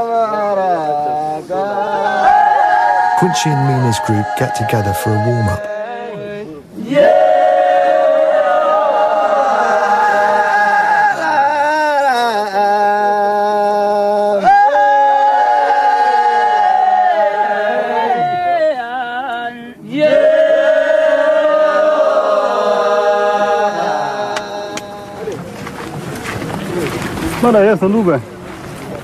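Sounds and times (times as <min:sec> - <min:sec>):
men chanting a cappella: 0:00.0 - 0:25.3.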